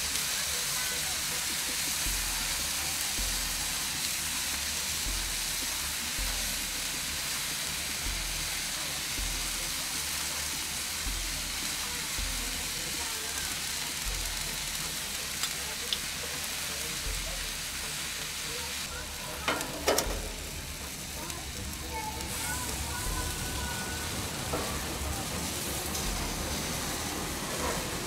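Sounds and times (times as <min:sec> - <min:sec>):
steak sizzling on grill: 0:00.0 - 0:28.0.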